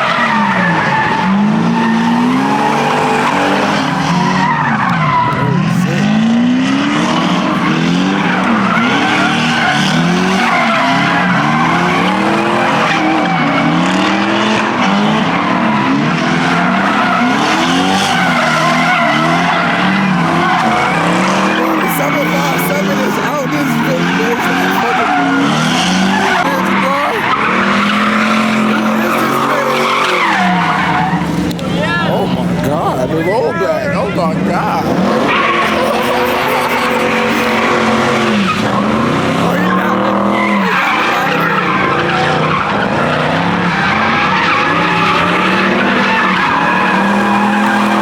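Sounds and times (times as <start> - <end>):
tyres squealing: 0.0 - 6.4, 7.0 - 14.1, 14.8 - 48.0
car engine revving: 0.0 - 48.0.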